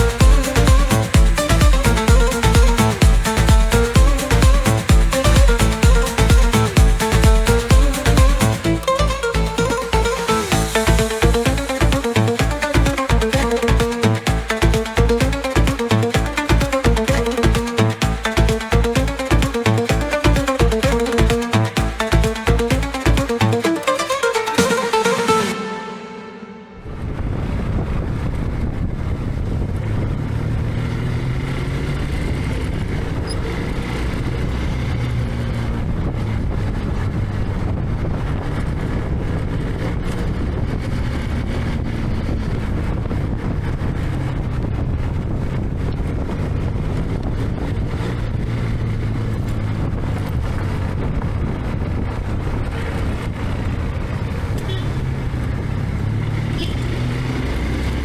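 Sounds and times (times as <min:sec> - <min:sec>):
motorcycle engine running: 0:00.0 - 0:23.7, 0:26.8 - 0:58.0
wind and road noise: 0:00.0 - 0:24.1, 0:26.8 - 0:58.0.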